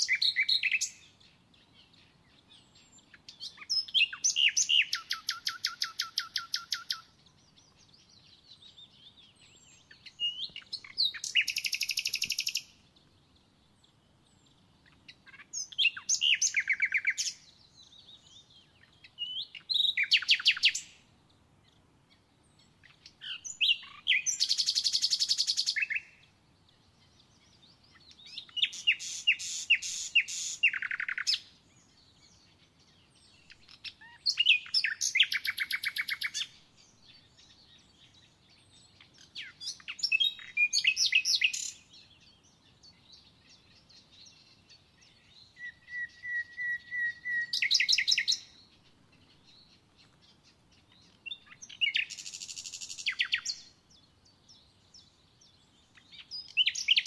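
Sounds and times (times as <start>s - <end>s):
songbird trilling: 0.0s - 13.0s, 13.8s - 21.0s, 22.4s - 57.0s.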